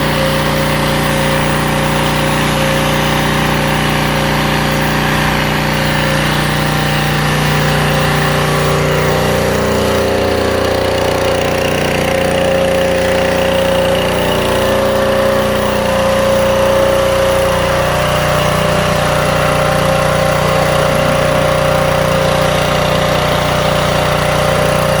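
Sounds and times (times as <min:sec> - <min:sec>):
pressure washer running: 0:00.0 - 0:25.0.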